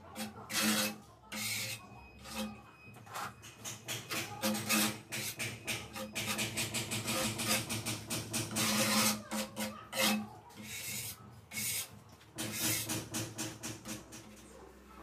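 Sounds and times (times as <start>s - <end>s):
trowel scraping tile adhesive: 0.0s - 13.3s.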